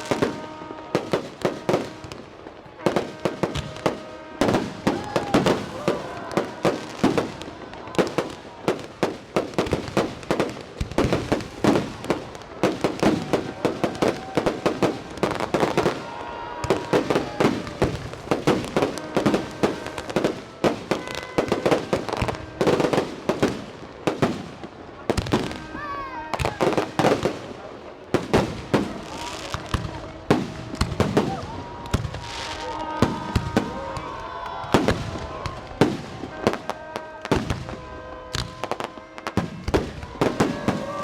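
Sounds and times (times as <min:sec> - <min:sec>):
firework bangs and crackling: 0:00.0 - 0:41.0.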